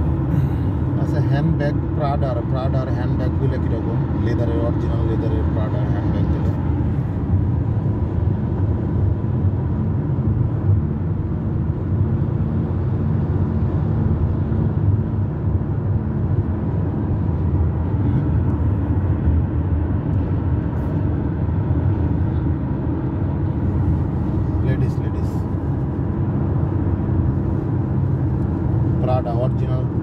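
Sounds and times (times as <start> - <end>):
tyre and engine rumble in car: 0.0 - 30.0.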